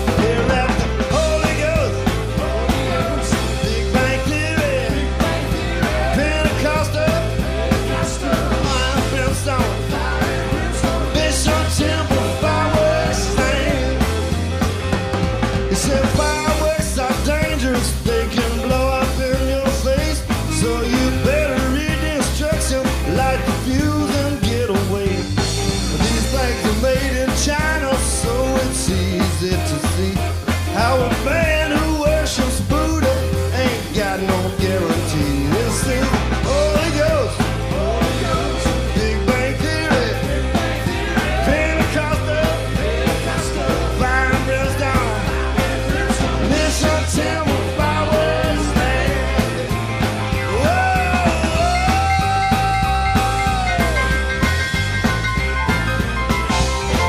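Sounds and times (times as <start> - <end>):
live band playing rock: 0.0 - 57.0.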